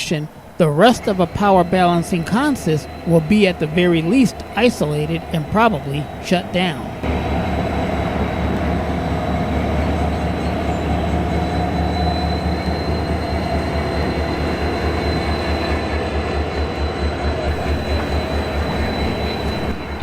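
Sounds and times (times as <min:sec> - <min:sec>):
high-pitched wheel squeal: 0:00.0 - 0:20.0
locomotive engine throb: 0:00.0 - 0:20.0.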